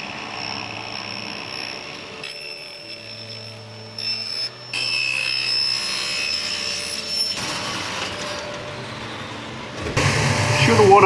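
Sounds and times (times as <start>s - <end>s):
table saw whining: 0.0s - 11.0s.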